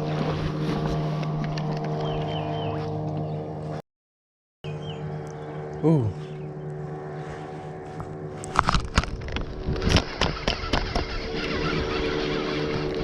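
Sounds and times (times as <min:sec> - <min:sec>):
steady motor hum: 0:00.0 - 0:03.8, 0:04.6 - 0:13.0.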